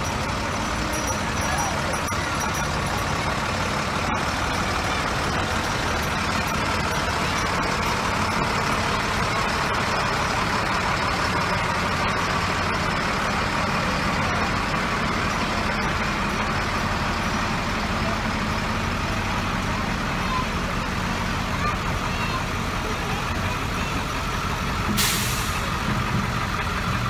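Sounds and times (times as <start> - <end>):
fire truck engines running: 0.0 - 27.0.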